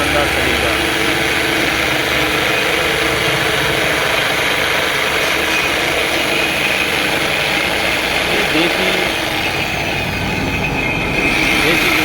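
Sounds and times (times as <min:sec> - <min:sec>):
electric drill running: 0:00.0 - 0:12.0.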